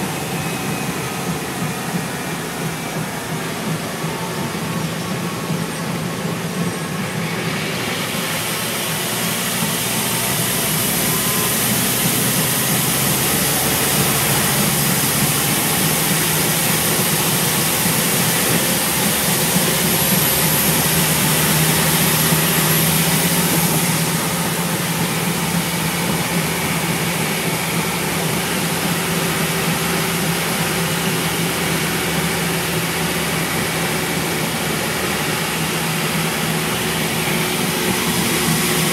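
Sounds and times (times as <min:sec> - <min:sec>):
bus engine hum: 0:00.0 - 0:38.9
road and air noise hiss: 0:00.0 - 0:38.9.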